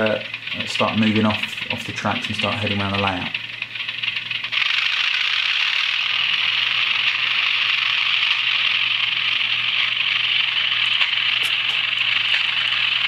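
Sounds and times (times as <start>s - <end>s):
low even hum: 0.0s - 13.0s.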